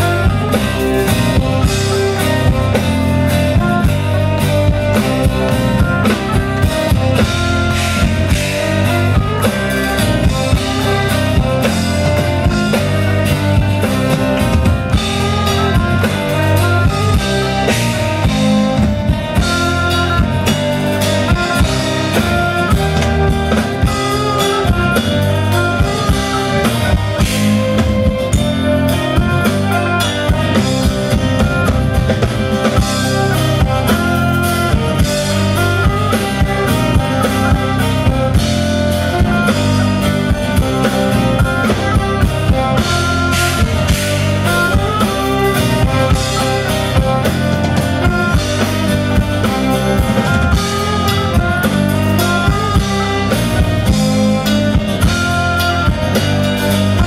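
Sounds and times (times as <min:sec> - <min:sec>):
bagpipes playing a tune: 0:00.0 - 0:57.0
bass guitar: 0:00.0 - 0:57.0
drum kit beat: 0:00.0 - 0:57.0.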